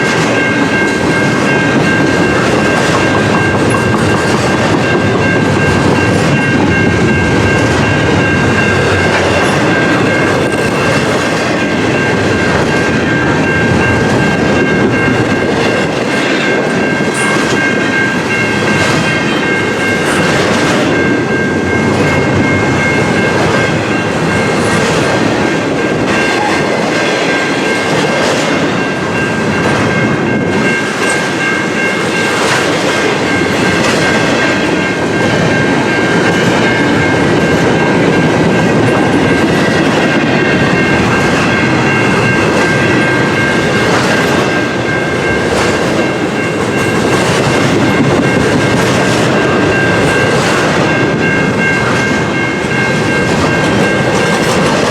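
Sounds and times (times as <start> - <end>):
freight train rumble: 0.0 - 54.9
train wheels clacking: 0.0 - 54.9.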